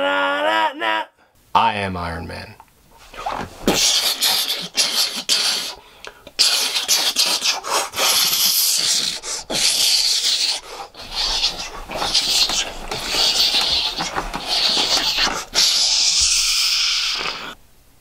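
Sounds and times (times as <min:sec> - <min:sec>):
man making whooshing mouth sounds: 0:03.0 - 0:17.6.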